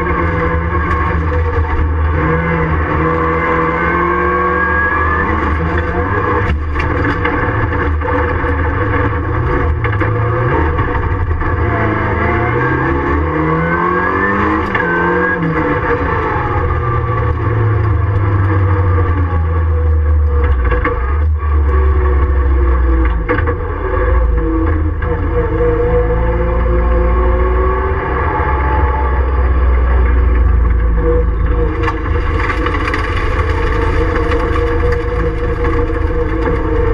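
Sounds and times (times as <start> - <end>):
racing car engine from inside: 0.0 - 36.9.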